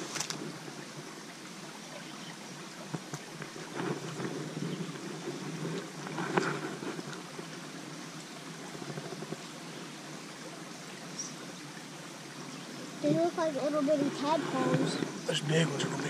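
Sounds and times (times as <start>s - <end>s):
creek flowing over shallows: 0.0s - 16.0s.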